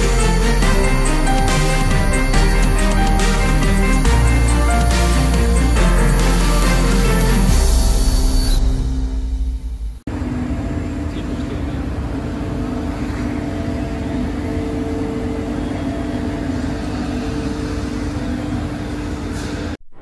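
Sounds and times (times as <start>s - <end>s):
workshop machinery humming: 0.0s - 19.8s.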